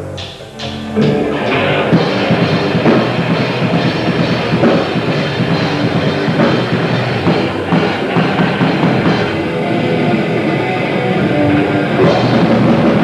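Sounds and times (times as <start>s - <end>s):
distorted guitars and bass: 0.0s - 13.0s
fast dense drumming: 0.2s - 13.0s.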